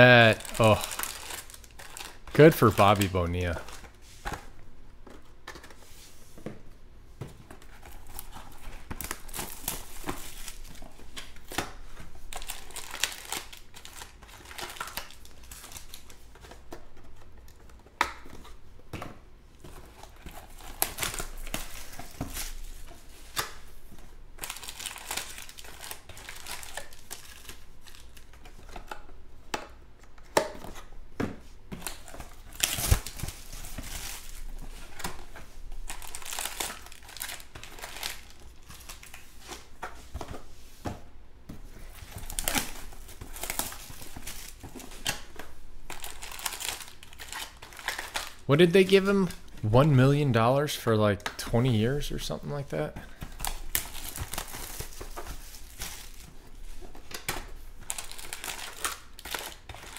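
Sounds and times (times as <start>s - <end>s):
plastic wrappers crinkling and tearing: 0.0s - 5.8s, 7.6s - 18.6s, 19.6s - 29.1s, 31.8s - 39.8s, 41.7s - 49.6s, 53.0s - 59.9s.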